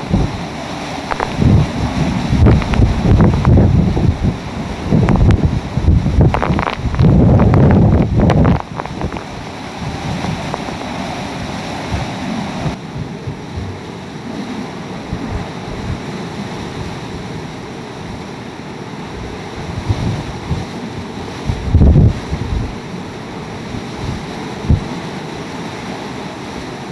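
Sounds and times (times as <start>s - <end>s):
wind buffeting the microphone: 0.0s - 18.2s, 19.0s - 26.6s
hurricane winds with heavy rain: 0.0s - 26.9s.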